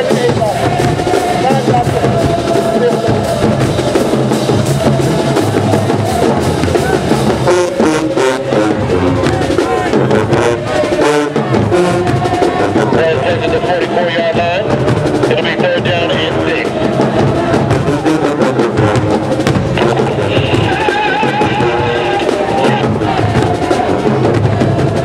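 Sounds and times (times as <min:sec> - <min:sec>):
drumline beat: 0:00.0 - 0:25.0
marching band playing: 0:00.0 - 0:25.0.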